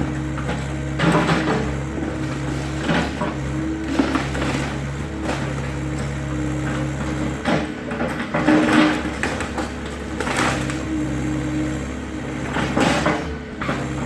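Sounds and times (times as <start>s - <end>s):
structure crunching and crashing: 0.0s - 11.3s
excavator diesel engine running: 0.0s - 14.0s.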